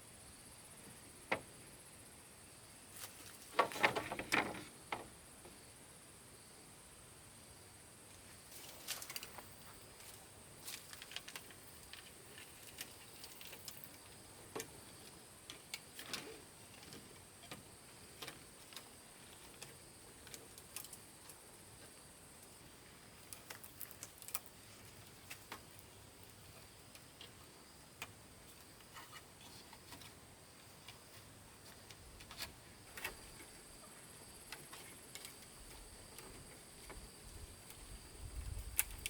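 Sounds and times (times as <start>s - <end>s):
steady high hiss: 0.0s - 39.0s.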